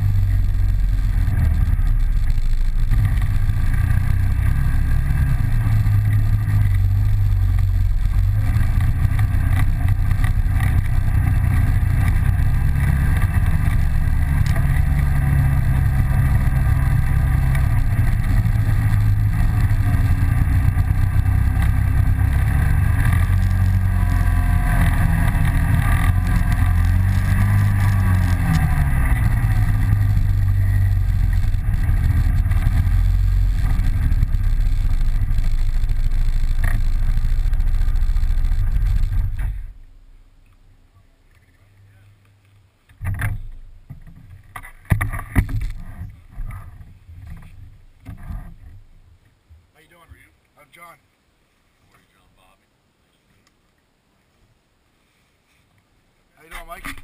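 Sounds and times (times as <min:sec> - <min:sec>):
atv engine running: 0:00.0 - 0:40.6, 0:43.0 - 0:49.0.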